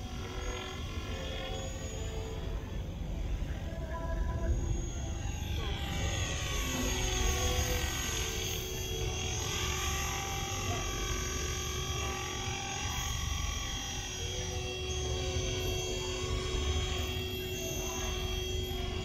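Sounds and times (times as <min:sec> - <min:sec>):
rc helicopter high whine: 0:00.0 - 0:19.0.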